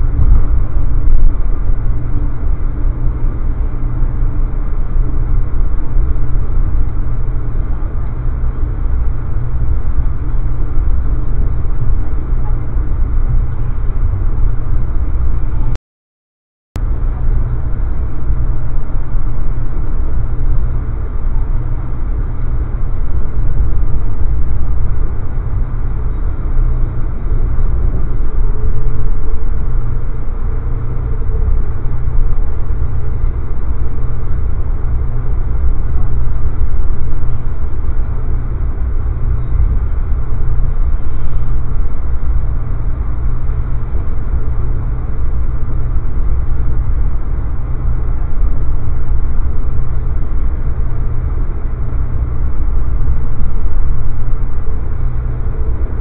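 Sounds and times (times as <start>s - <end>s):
train rumbling at speed: 0.0s - 15.8s, 16.8s - 56.0s.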